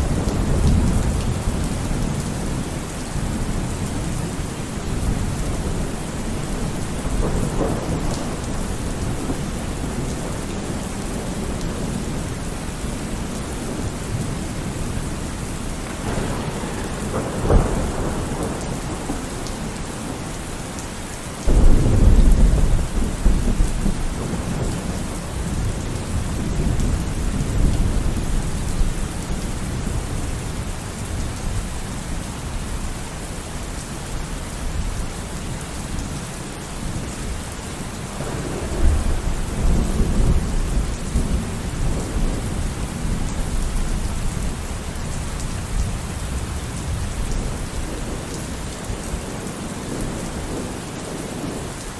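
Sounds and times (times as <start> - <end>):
rolling thunder: 0.0 - 32.2, 38.0 - 51.8
steady rain: 0.0 - 51.9.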